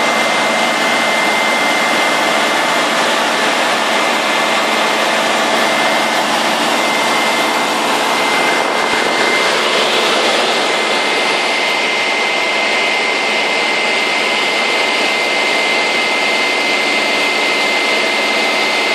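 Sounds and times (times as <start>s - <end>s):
propeller aircraft engine droning: 0.0s - 18.9s
thin high whine: 0.0s - 18.9s.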